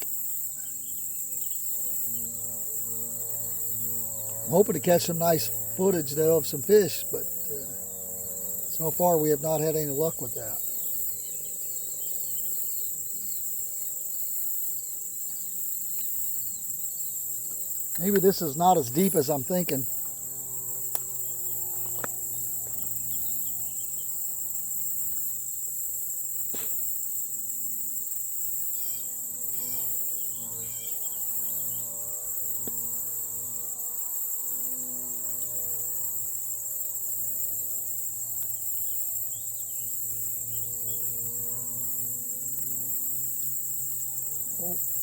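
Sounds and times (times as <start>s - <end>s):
crickets and insects chirping: 0.0s - 45.0s.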